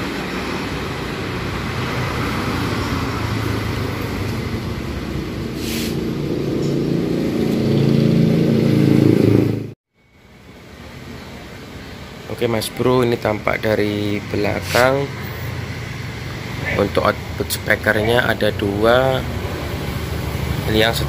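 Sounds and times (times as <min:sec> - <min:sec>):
road traffic passing: 0:00.0 - 0:21.0
vehicle engine: 0:00.0 - 0:21.0.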